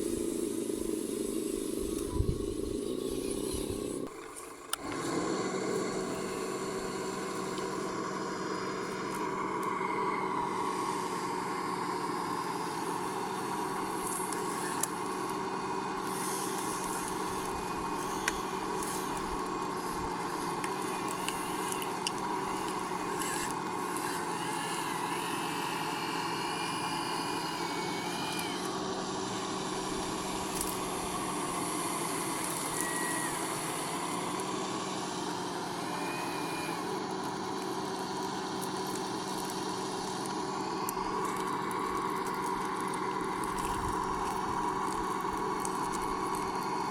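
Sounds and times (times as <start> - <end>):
small electric motors whining: 0.0 - 46.9.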